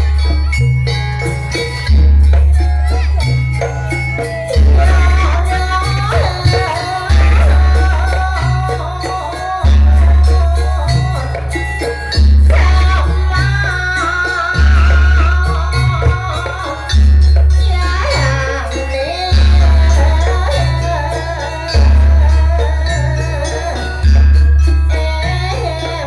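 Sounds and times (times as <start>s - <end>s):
rattling percussion: 0.0s - 26.0s
wavering high melody: 0.0s - 26.0s.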